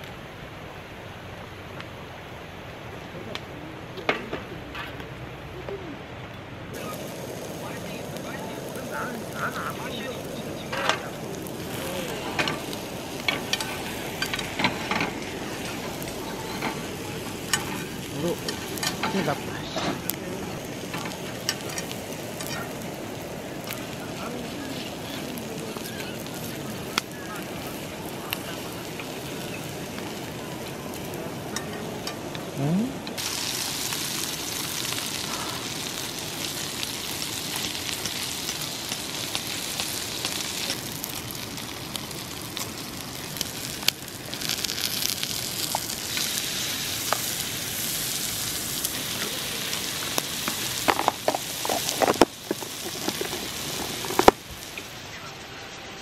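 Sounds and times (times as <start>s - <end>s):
meat sizzling on a griddle: 6.7s - 55.7s.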